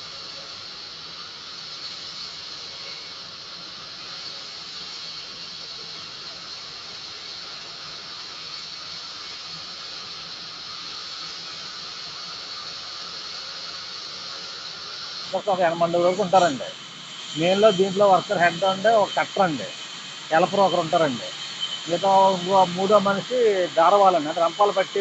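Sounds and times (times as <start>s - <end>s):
sawmill machinery hiss and whine: 0.0s - 25.0s.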